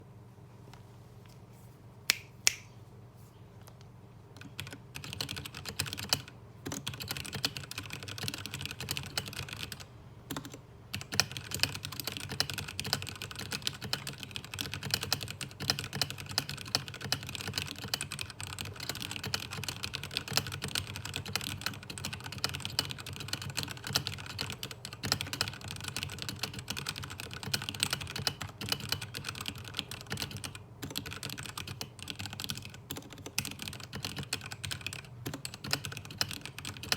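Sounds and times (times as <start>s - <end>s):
mechanical keyboard typing: 4.4s - 36.9s.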